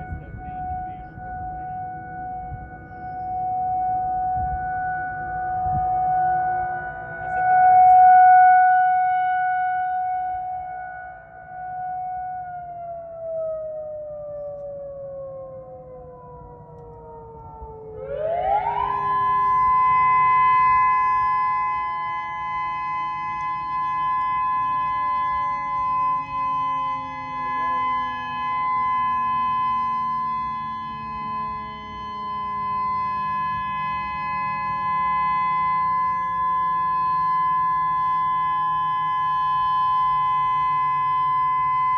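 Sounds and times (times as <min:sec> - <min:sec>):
warning siren winding down: 0:00.0 - 0:41.9
warning siren winding up: 0:00.0 - 0:41.9.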